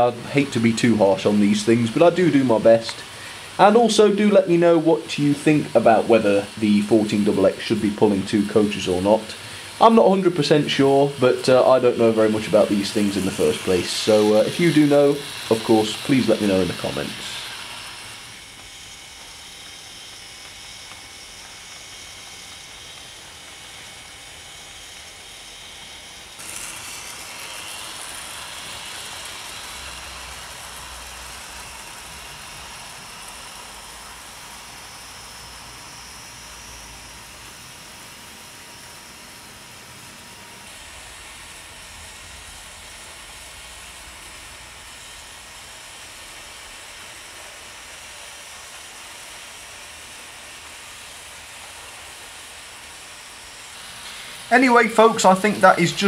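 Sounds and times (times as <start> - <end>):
model train whirring on track: 0.0 - 56.0.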